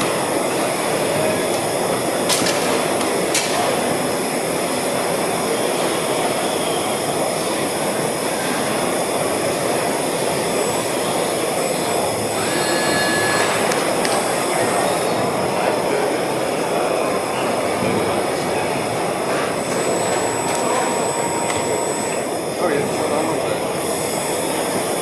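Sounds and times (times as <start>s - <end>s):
din of busy hall: 0.0s - 25.0s.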